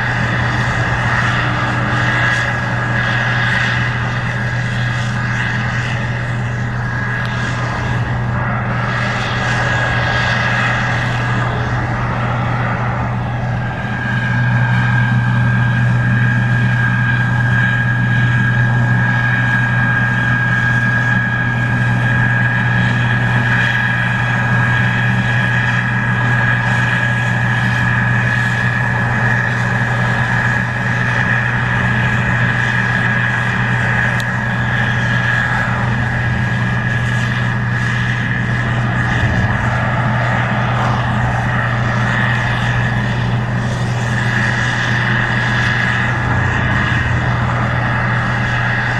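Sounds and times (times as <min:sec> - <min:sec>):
combine harvester diesel hum: 0:00.0 - 0:48.9
high whine: 0:00.0 - 0:48.9.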